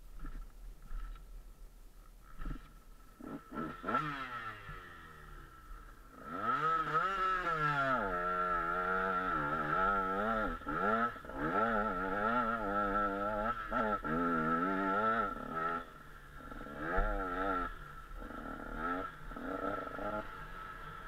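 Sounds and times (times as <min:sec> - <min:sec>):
motocross bike engine revving: 0:02.4 - 0:21.0.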